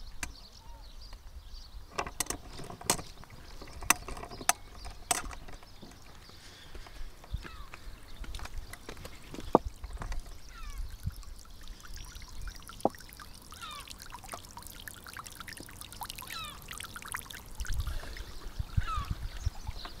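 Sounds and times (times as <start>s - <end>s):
small clicks and splashes: 1.9s - 20.0s
small waves lapping against rocks: 2.0s - 20.0s.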